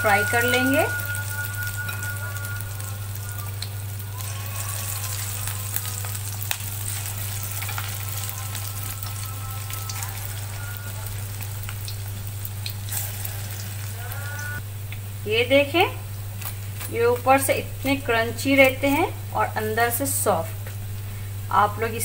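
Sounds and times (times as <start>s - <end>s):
low hum: 0.0s - 19.7s
deep-frying sizzle with crackles: 0.0s - 22.0s.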